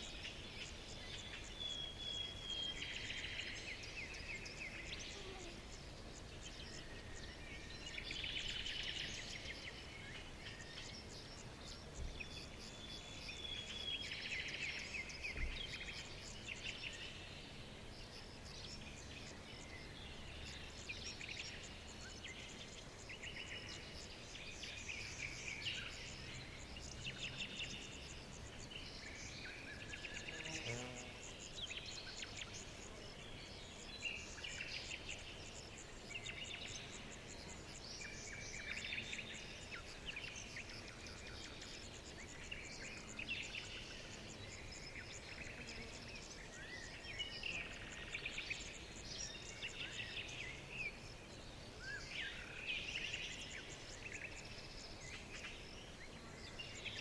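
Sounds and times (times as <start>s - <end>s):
birds chirping and trilling: 0.0s - 57.0s
faint steady background hiss: 0.0s - 57.0s.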